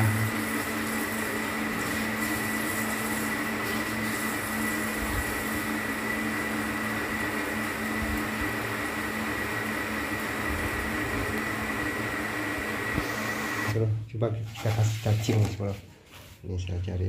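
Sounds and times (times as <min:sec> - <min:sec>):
machine humming: 0:00.0 - 0:13.8.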